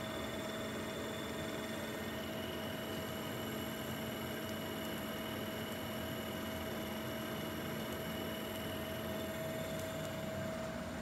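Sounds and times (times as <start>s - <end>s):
test rig motor humming and whining: 0.0s - 11.0s.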